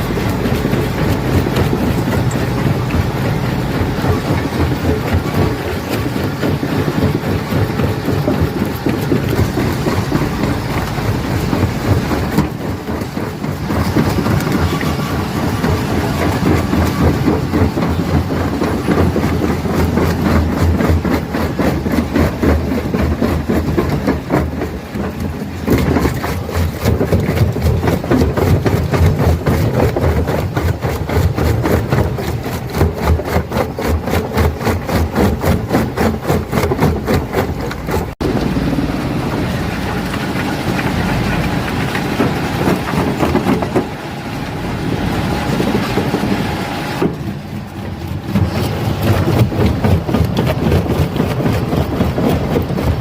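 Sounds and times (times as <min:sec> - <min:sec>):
rock crusher clattering stone: 0:00.0 - 0:38.5, 0:39.8 - 0:44.0
low machine drone: 0:00.0 - 0:53.0.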